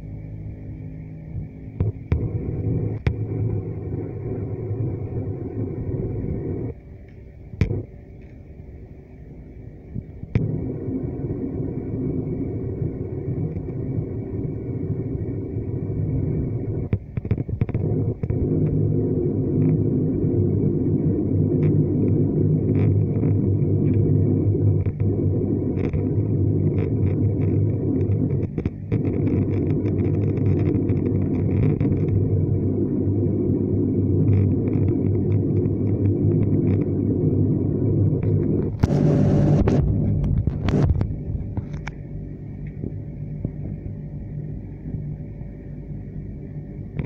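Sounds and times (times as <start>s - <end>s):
turboprop engine drone: 0.0s - 47.0s.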